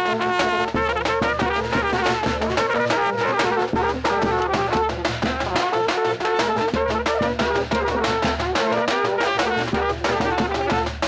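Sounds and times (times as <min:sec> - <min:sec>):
horns playing melody: 0:00.0 - 0:11.0
steady drum beat: 0:00.0 - 0:11.0.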